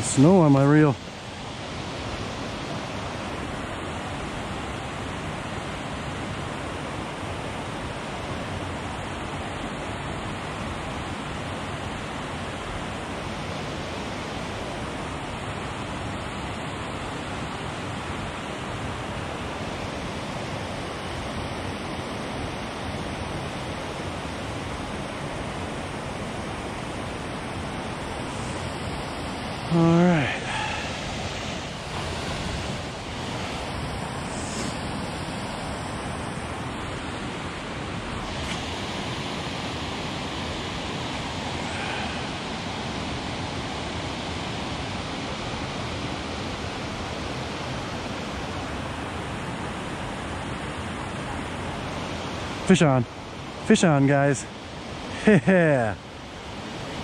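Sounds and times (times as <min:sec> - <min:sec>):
water rushing over waterfall: 0:00.0 - 0:57.0.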